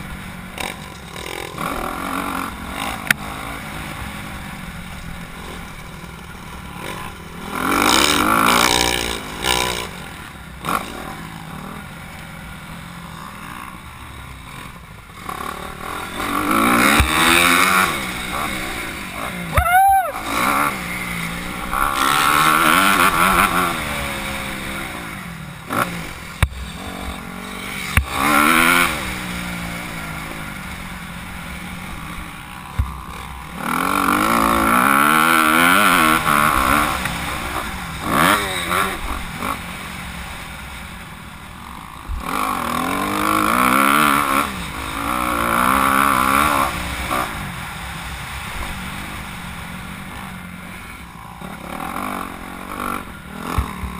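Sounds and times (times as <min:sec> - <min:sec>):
motocross bike engine revving: 0:00.0 - 0:53.9.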